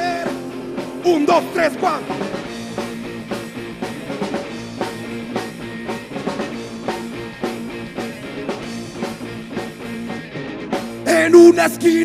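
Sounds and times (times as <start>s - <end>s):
drum kit steady beat: 0.0s - 12.0s
rock band instrumental: 0.0s - 12.0s.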